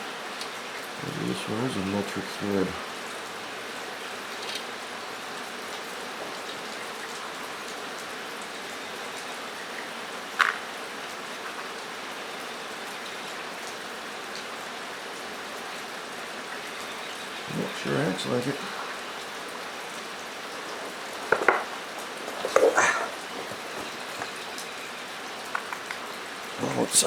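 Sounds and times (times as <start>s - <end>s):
rain on a metal roof: 0.0s - 27.0s.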